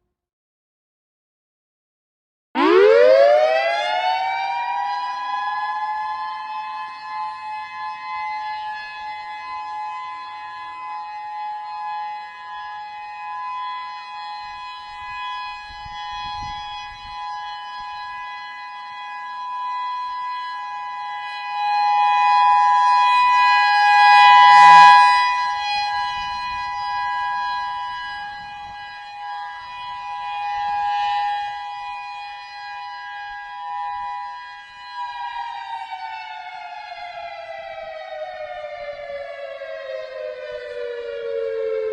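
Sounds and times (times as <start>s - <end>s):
two-note warning siren: 2.6s - 41.9s.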